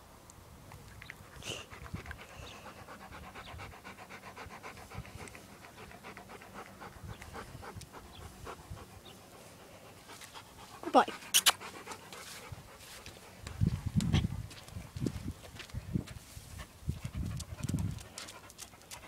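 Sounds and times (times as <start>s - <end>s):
dog panting rapidly: 1.2s - 15.2s, 16.5s - 19.0s.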